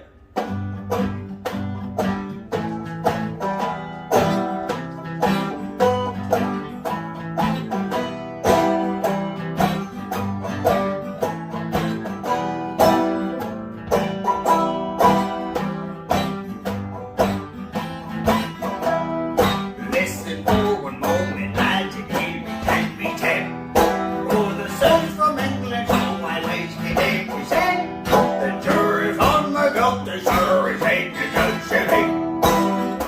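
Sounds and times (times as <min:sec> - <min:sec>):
banjo-led folk band: 0:00.0 - 0:33.0.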